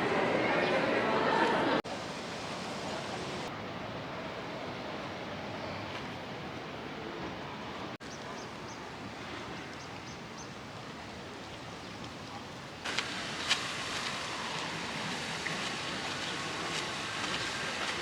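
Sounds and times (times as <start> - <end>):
distant traffic hum: 0.0 - 18.0.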